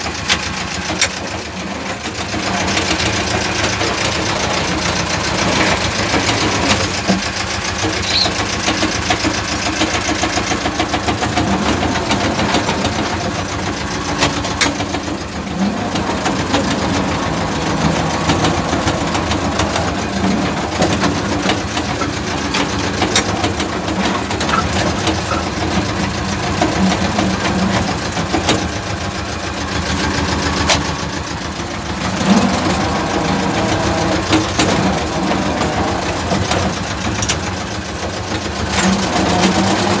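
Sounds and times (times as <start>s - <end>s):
tractor diesel engine clattering: 0.0s - 40.0s.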